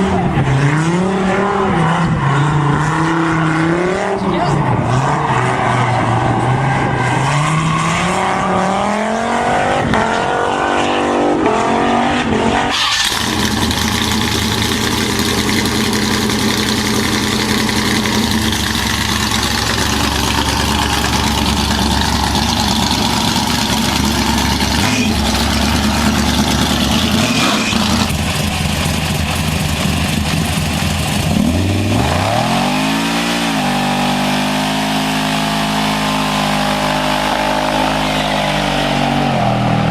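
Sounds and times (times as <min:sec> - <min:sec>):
vehicle engines revving: 0:00.0 - 0:39.9.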